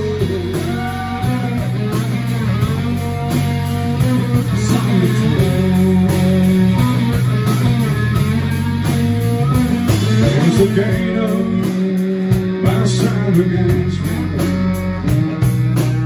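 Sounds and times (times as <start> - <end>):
bending guitar notes: 0.0 - 16.0
rock band playing: 0.0 - 16.0.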